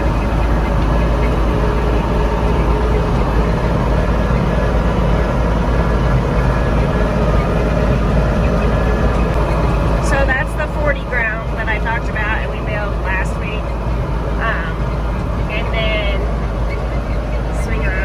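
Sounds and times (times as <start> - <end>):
heavy engine running: 0.0 - 18.0.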